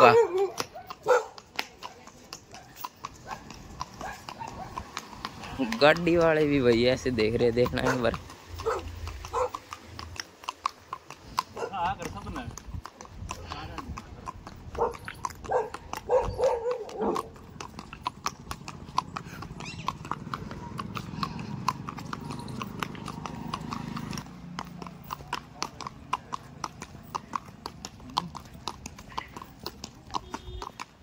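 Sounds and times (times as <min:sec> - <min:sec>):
horse hooves clip-clopping: 0:00.0 - 0:31.0.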